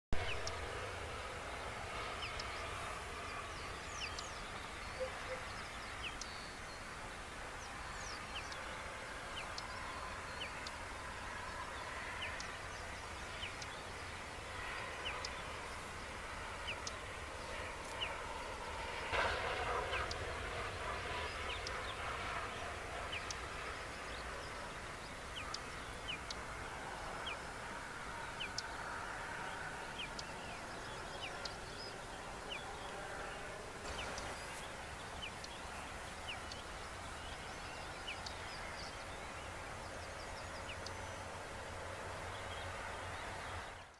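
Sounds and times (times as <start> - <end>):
small birds chirping: 0.2 - 19.0, 19.8 - 41.4.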